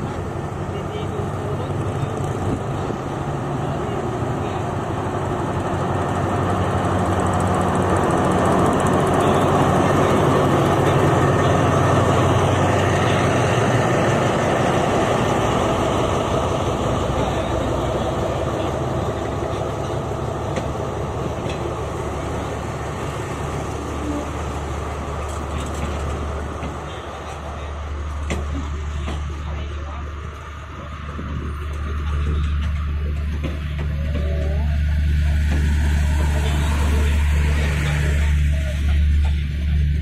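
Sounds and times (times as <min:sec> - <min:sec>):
diesel locomotive engine running: 0:00.0 - 0:40.0
train carriages rolling: 0:00.0 - 0:40.0.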